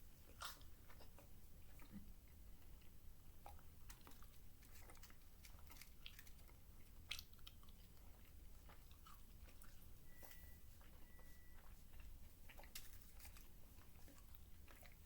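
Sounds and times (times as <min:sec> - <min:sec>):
chewing gummy candy: 0:00.1 - 0:15.0.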